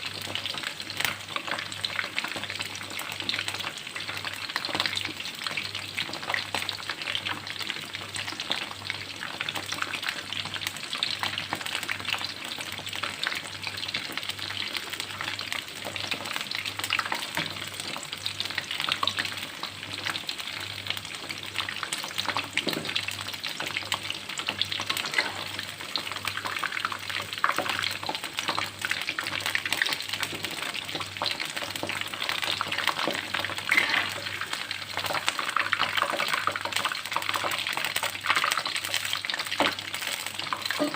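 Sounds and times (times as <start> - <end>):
shrimp deep-frying in oil: 0.0 - 40.9.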